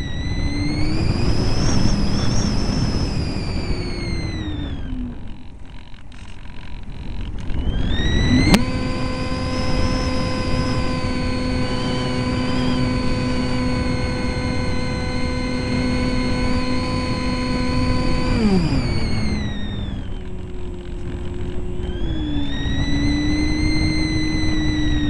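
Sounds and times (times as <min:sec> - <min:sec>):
electric motor and propeller whine: 0:00.0 - 0:25.0.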